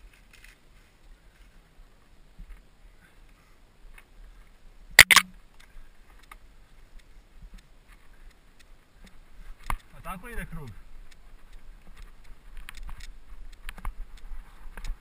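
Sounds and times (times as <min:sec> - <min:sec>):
faint ticks and clicks: 0:00.0 - 0:15.0.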